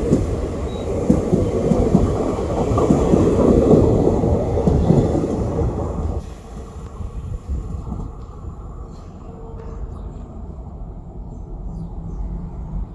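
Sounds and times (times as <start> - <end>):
train wheels rumbling and knocking: 0.0 - 12.9.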